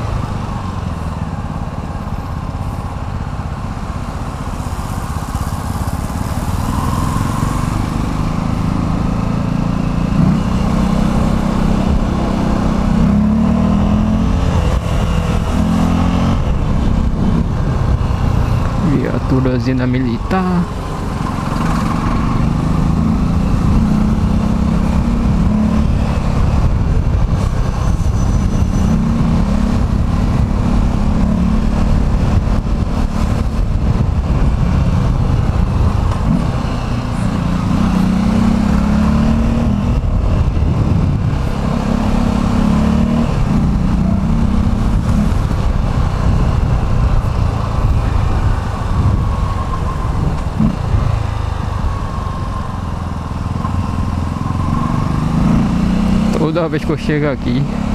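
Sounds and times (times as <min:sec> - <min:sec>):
vehicle engine revving: 0:04.5 - 0:57.9.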